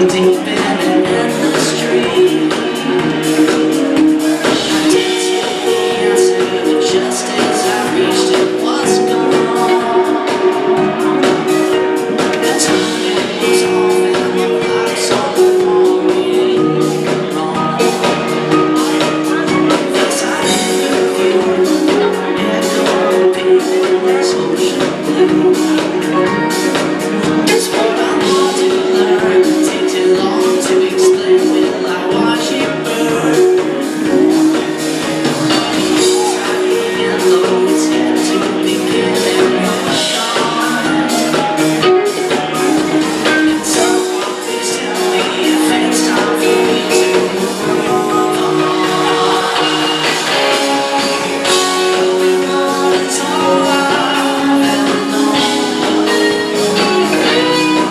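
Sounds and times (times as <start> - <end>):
band playing live: 0.0 - 57.9.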